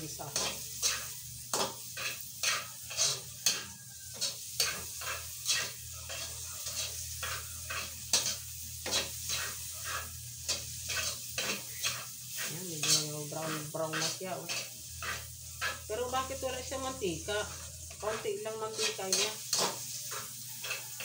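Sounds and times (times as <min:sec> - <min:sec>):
metal spatula scraping a pan: 0:00.0 - 0:21.0
pork fat sizzling in a wok: 0:00.0 - 0:21.0.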